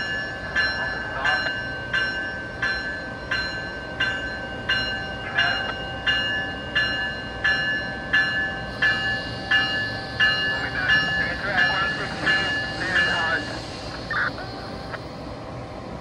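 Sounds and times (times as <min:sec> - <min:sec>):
locomotive bell ringing: 0:00.0 - 0:15.0
standing train humming: 0:00.0 - 0:16.0.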